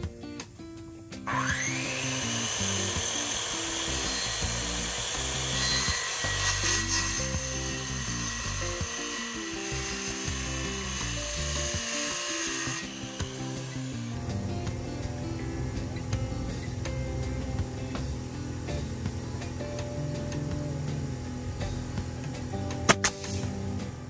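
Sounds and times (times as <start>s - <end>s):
background music: 0.0s - 24.0s
circular saw cutting wood: 1.2s - 24.0s.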